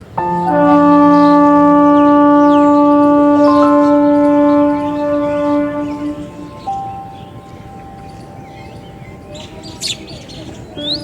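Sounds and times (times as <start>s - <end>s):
sustained synth pad chord: 0.0s - 11.0s.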